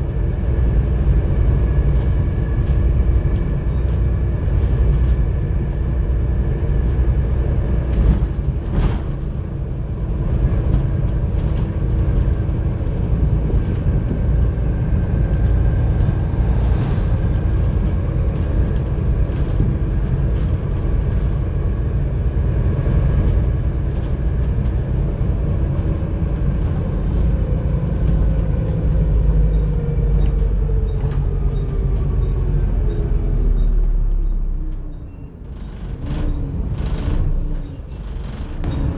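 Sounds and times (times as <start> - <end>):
bus diesel engine rumble: 0.0 - 38.9.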